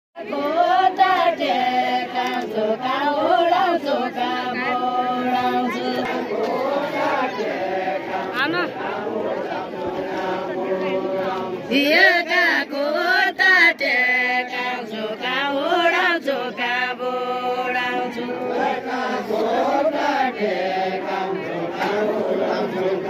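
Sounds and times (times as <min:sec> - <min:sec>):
group of voices chanting a folk song: 0:00.2 - 0:23.0.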